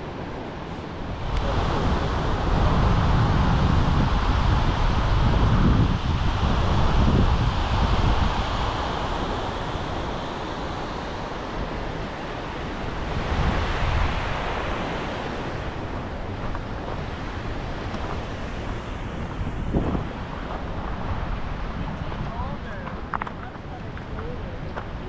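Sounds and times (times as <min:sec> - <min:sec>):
wind buffeting microphone: 0:00.0 - 0:25.0
water rushing down cascades: 0:00.7 - 0:21.0.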